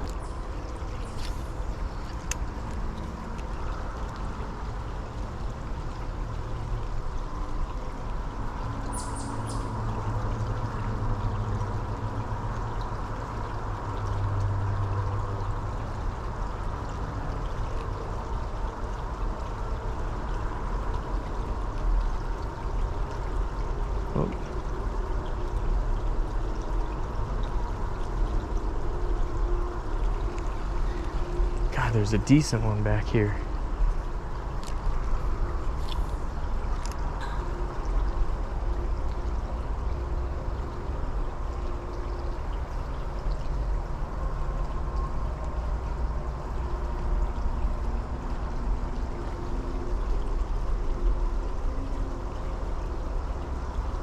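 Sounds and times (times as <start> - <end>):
creek water rushing and trickling: 0.0 - 54.0.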